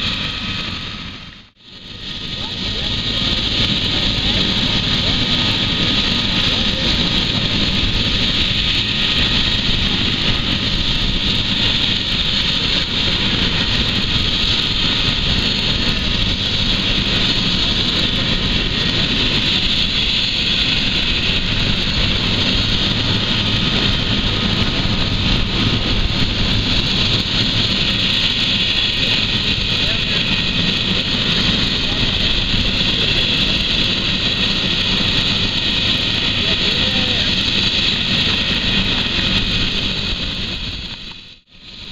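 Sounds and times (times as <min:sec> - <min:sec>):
helicopter rotor beat: 0:00.0 - 0:41.9
helicopter turbine whine: 0:00.0 - 0:41.9.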